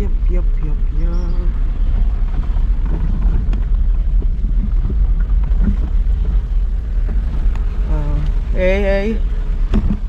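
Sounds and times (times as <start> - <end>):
car rumbling on the move: 0.0 - 10.0
wind buffeting microphone: 0.0 - 10.0.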